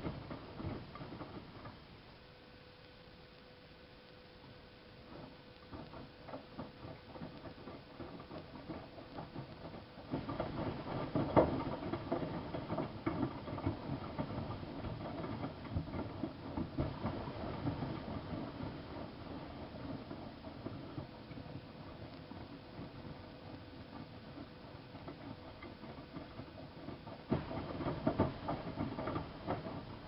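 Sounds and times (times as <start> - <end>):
washing machine drum tumbling laundry: 0.0 - 1.8, 5.1 - 30.0.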